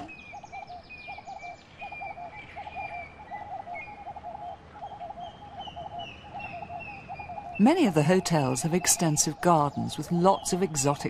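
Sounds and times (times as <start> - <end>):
low bird call: 0.0 - 11.0.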